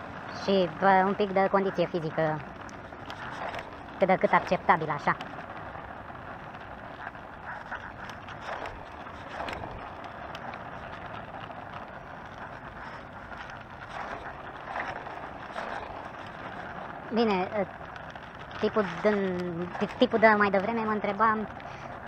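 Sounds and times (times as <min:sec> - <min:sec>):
scooter rattles and clicks: 0:00.0 - 0:22.0
scooter wheels rumbling on asphalt: 0:00.0 - 0:22.0.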